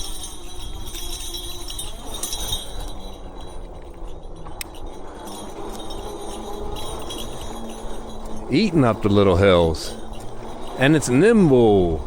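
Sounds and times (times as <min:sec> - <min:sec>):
bike rattling and clinking: 0:00.0 - 0:12.0
rumble of wind and tyres: 0:00.0 - 0:12.0.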